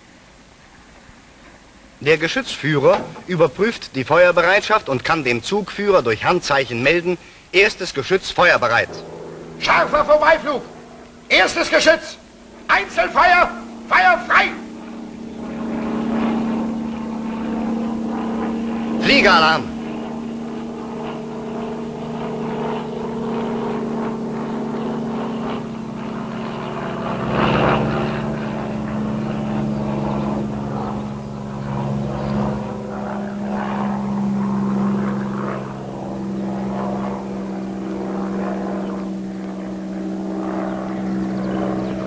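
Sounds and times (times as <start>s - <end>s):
propeller aircraft droning: 0.0s - 42.0s.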